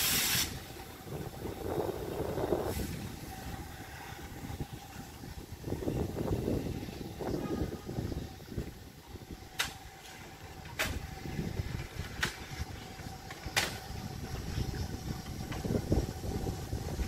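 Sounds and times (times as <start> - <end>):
steam locomotive rumble: 0.0 - 17.0.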